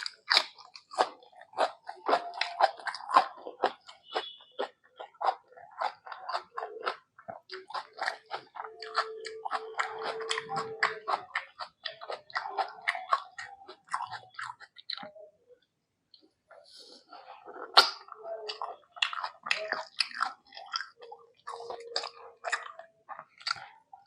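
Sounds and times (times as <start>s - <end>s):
wet chewing and smacking: 0.0s - 16.3s, 17.1s - 24.0s.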